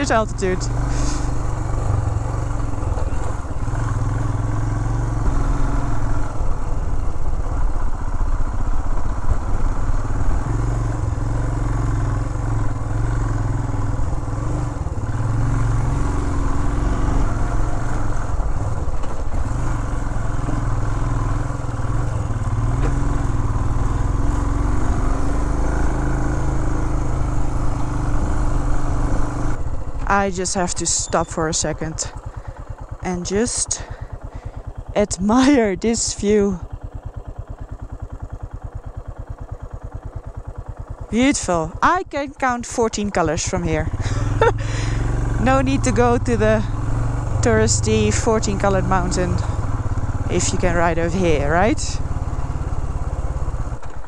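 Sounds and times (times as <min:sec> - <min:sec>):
single-cylinder motorcycle engine running: 0:00.0 - 0:54.0.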